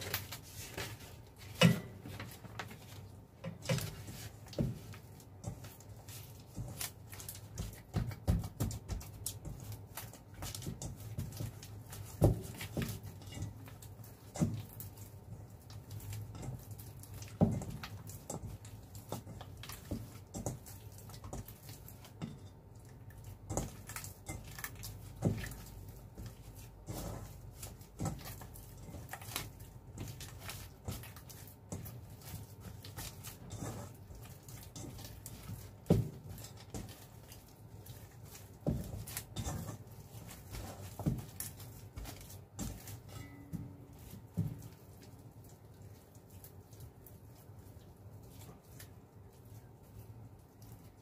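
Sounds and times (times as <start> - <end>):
dough squishing: 0.0 - 51.0.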